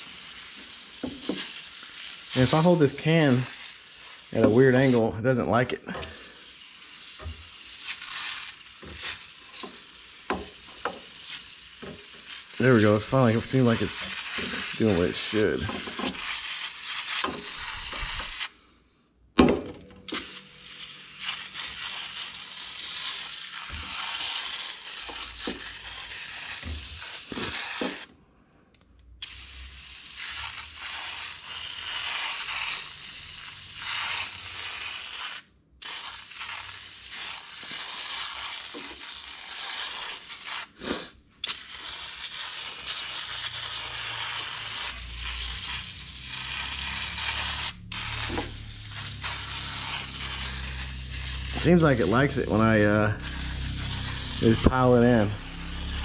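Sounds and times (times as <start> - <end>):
aerosol can spraying: 0.0 - 5.1, 6.0 - 18.5, 20.0 - 28.1, 29.2 - 56.0.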